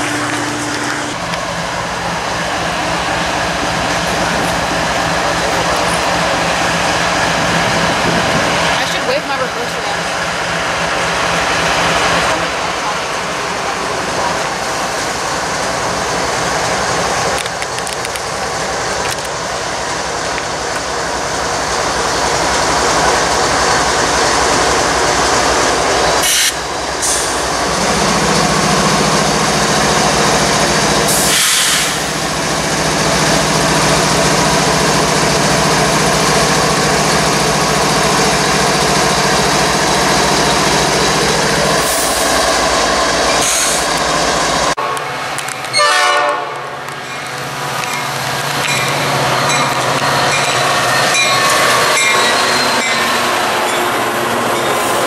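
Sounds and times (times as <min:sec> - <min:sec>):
diesel train approaching: 0:00.0 - 0:55.0
freight train wheels on rails: 0:00.0 - 0:55.0.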